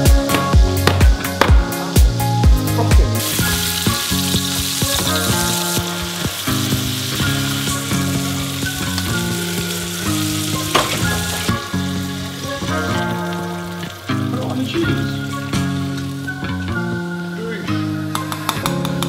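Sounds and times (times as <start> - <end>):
burger patties sizzling in a pan: 0.0 - 16.7.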